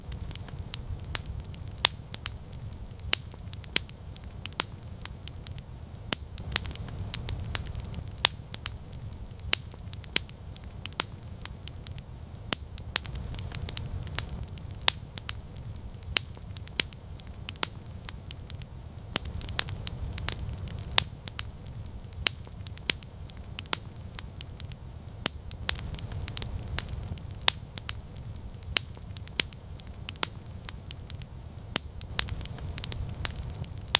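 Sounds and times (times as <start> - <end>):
campfire crackling and popping: 0.0 - 33.9
low fire rumble: 0.0 - 33.9.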